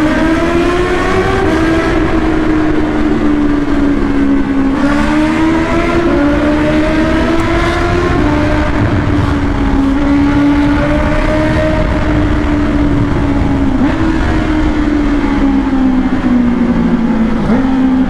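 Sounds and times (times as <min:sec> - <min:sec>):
loud motorcycle engine: 0:00.0 - 0:18.0
wind and road noise: 0:00.0 - 0:18.0.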